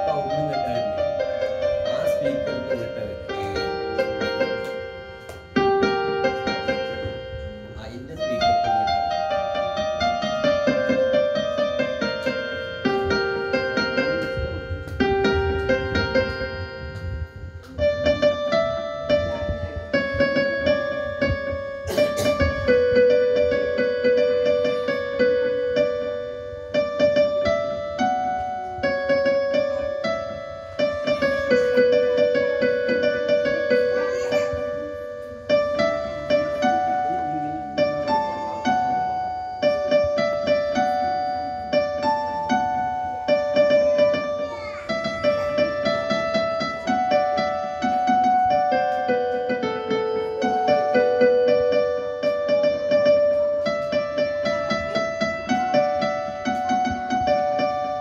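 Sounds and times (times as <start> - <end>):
electronic keyboard melody: 0.0 - 58.0.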